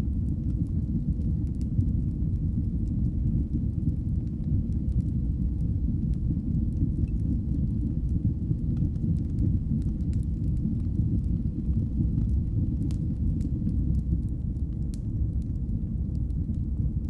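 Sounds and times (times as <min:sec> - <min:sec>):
faint crackles and pops: 0:00.0 - 0:17.0
fire roaring in fireplace: 0:00.0 - 0:17.0.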